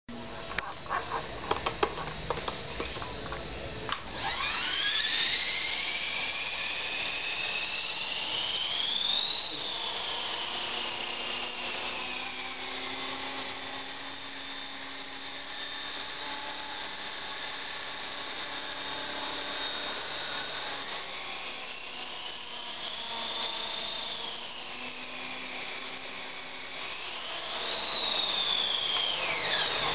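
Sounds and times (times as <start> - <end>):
rc helicopter motor whine: 0.1 - 29.9.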